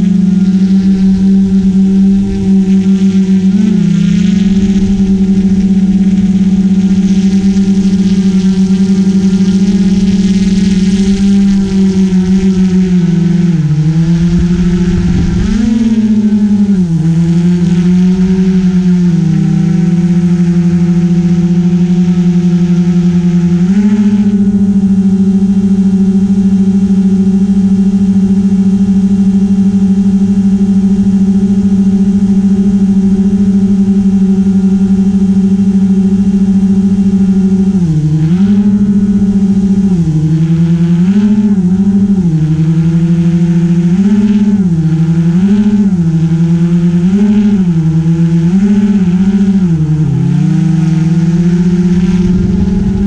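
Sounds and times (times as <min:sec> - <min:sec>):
drone motors humming: 0:00.0 - 0:53.0.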